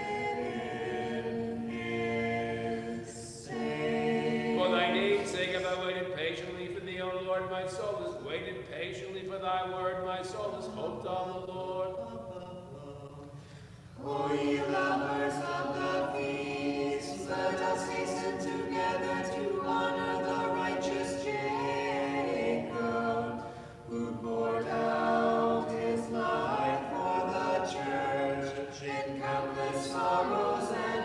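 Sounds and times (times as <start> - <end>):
choir singing a cappella: 0.0 - 6.1, 9.8 - 31.0.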